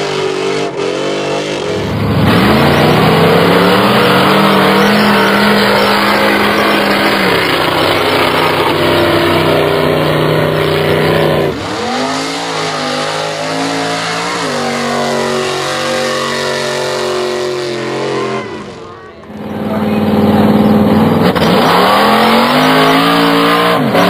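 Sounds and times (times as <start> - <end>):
truck engines revving high: 0.0 - 24.0.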